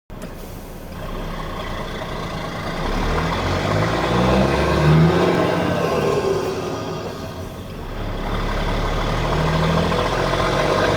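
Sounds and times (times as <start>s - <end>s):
truck diesel engine revving: 0.4s - 10.9s.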